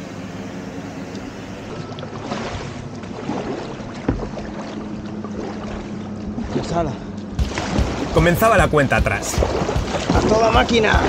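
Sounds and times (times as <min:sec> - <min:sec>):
motorboat engine hum: 0:00.0 - 0:11.0
paddle splashing in water: 0:01.1 - 0:11.0.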